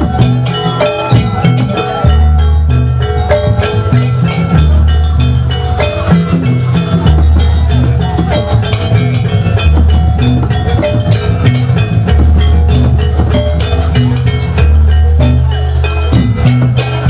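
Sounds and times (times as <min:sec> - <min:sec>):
drums: 0:00.0 - 0:17.0
metal gamelan percussion: 0:00.0 - 0:17.0.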